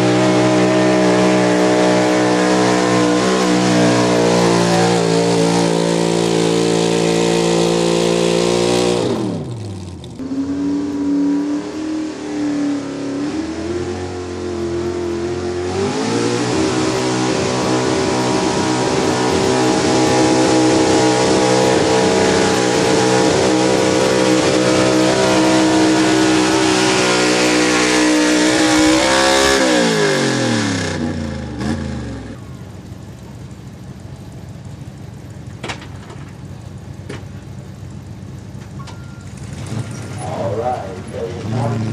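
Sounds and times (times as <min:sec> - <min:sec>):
truck engine at high revs: 0:00.0 - 0:41.9.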